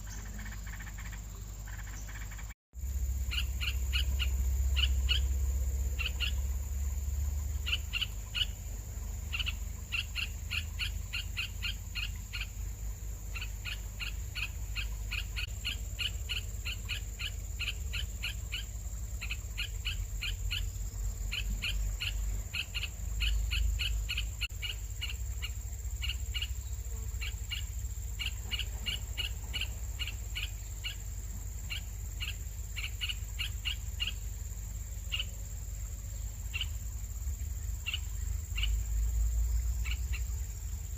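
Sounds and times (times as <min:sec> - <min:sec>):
low steady rumble: 0:00.0 - 0:40.9
nestling birds begging chirps: 0:00.0 - 0:40.9.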